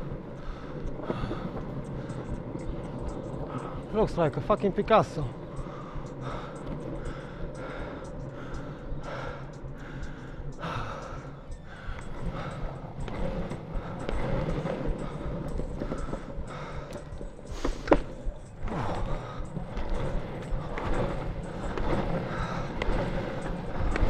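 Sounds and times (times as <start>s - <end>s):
longboard wheels rolling on pavement: 0.0s - 24.0s
rider breathing: 0.0s - 24.0s.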